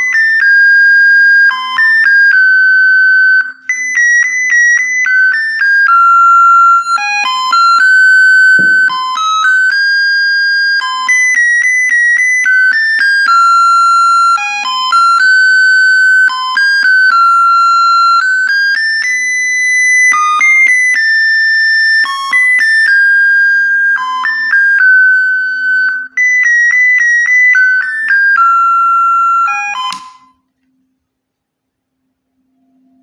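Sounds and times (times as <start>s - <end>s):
electronic doorbell melody: 0.0s - 30.4s.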